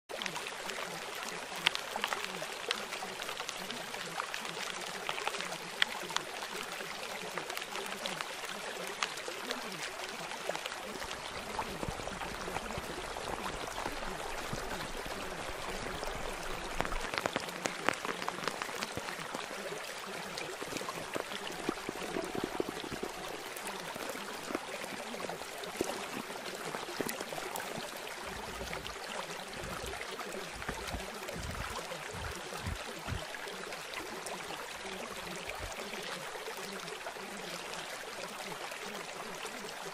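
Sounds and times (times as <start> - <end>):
rain-like water noise: 0.1 - 39.9.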